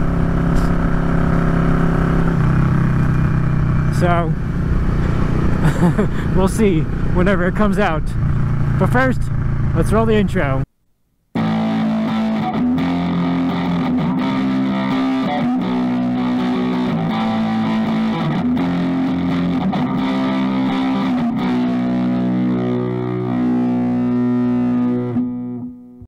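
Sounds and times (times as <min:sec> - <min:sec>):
rock music with electric guitar: 0:00.0 - 0:07.6, 0:11.4 - 0:26.0.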